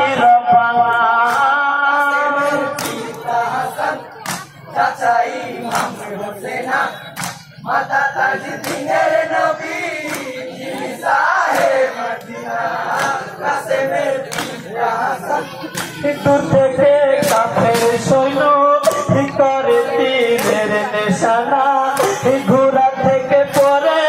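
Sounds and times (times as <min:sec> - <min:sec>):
men's chorus chanting: 0:00.0 - 0:24.0
sharp rhythmic beats: 0:00.0 - 0:24.0.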